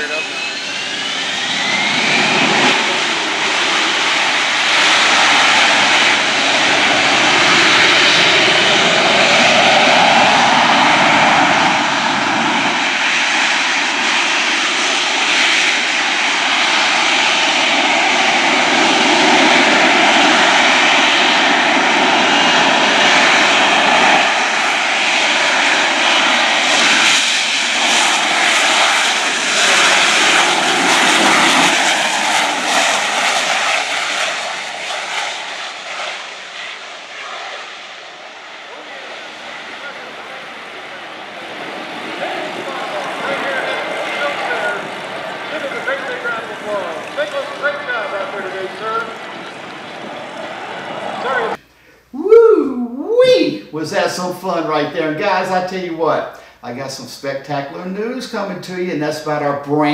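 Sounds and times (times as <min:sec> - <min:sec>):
jet engine roaring: 0:00.0 - 0:52.0, 0:52.7 - 0:59.9.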